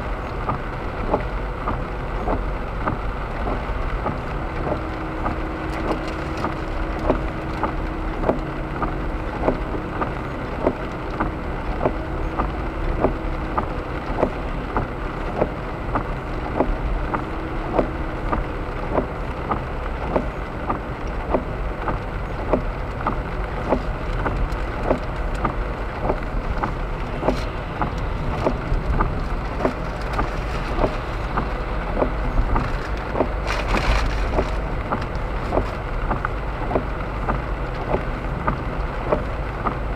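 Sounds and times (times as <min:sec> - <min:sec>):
road rumble with tyre hiss: 0:00.0 - 0:39.9.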